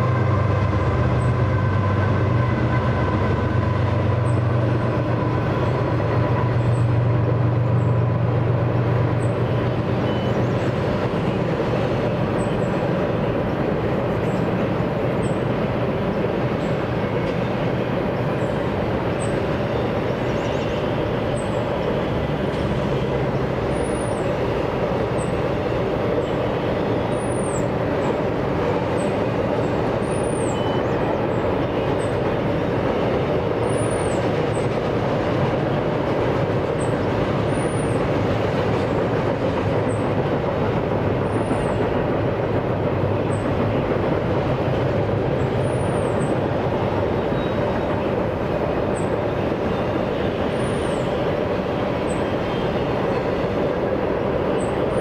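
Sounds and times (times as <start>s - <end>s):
diesel locomotive drone: 0.0s - 55.0s
steel wheels rumbling on rail: 0.0s - 55.0s.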